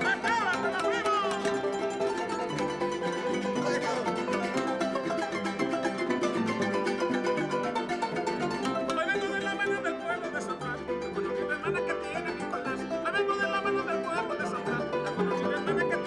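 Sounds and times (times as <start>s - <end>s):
harp plucked melody: 0.0s - 16.0s
strummed guitars: 0.0s - 16.0s.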